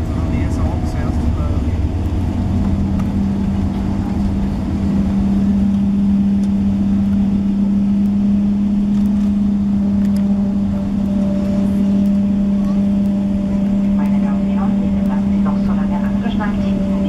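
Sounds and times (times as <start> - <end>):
airplane cabin rumble: 0.0 - 17.0
steady hum: 0.0 - 17.0.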